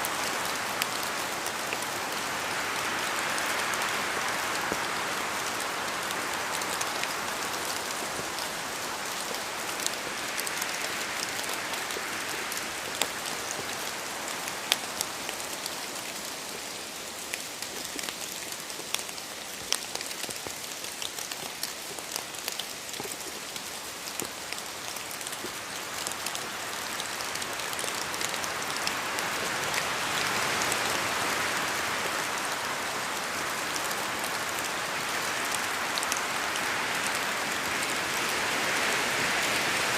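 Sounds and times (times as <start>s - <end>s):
rain falling in forest: 0.0s - 39.9s
raindrops hitting close by: 0.0s - 39.9s.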